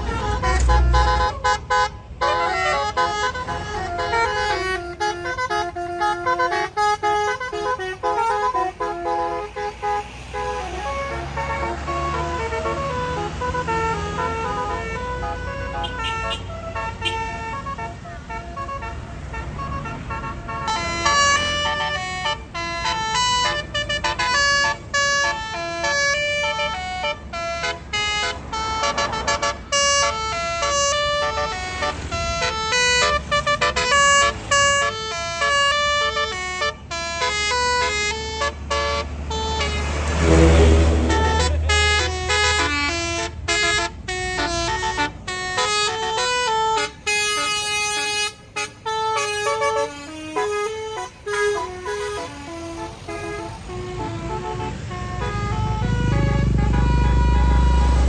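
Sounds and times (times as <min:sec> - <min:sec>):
bus horn playing melody: 0:00.0 - 0:58.0
low engine rumble: 0:00.0 - 0:58.0.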